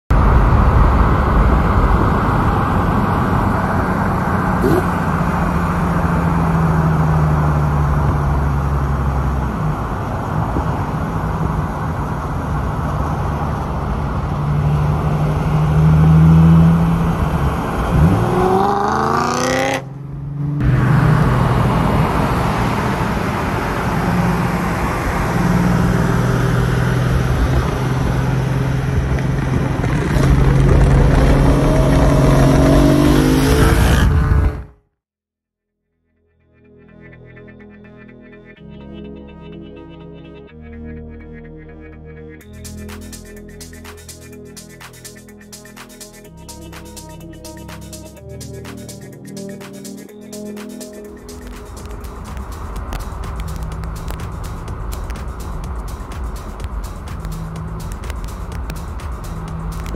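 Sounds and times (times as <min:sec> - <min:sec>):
car engine and exhaust cruising: 0:00.1 - 0:34.7, 0:36.8 - 0:59.9
road and wind noise: 0:00.1 - 0:34.8, 0:42.4 - 0:59.9.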